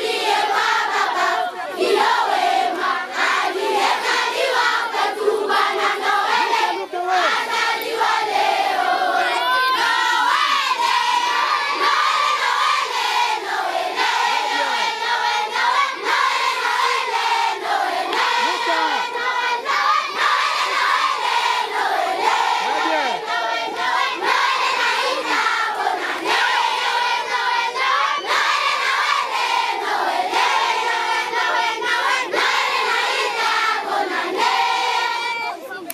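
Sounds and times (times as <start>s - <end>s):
children singing and shouting: 0.0s - 35.9s.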